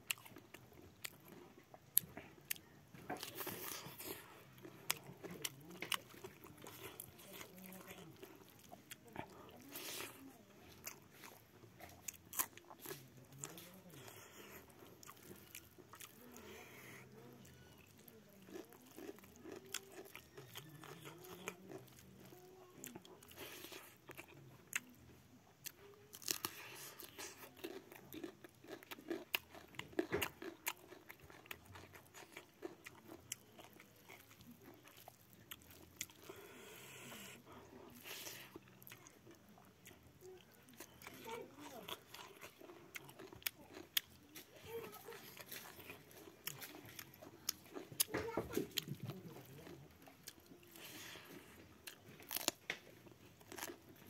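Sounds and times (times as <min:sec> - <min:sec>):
open-mouthed chewing: 0:00.0 - 0:54.0.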